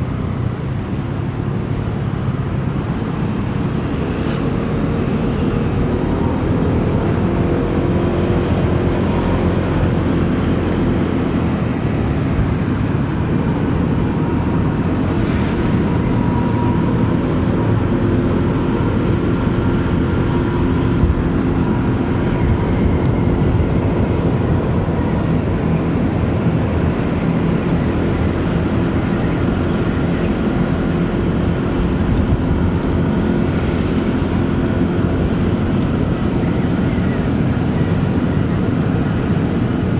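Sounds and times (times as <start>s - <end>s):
motorcycle engine running: 0.0s - 39.9s
other vehicles passing: 0.0s - 39.9s
road and wind noise: 0.0s - 39.9s.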